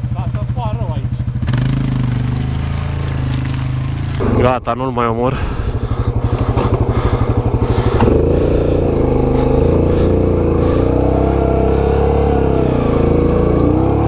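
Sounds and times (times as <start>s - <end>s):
quad bike engine revving: 0.0s - 14.0s.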